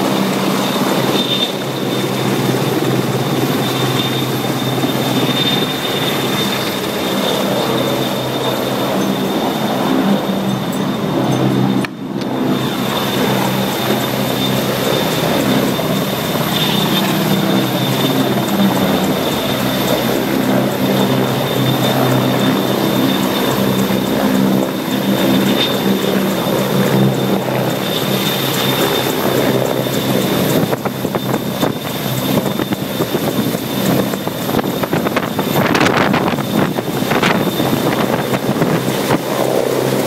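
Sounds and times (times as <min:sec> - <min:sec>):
helicopter rotors and engine drone: 0:00.0 - 0:40.0
high whine: 0:00.0 - 0:40.0.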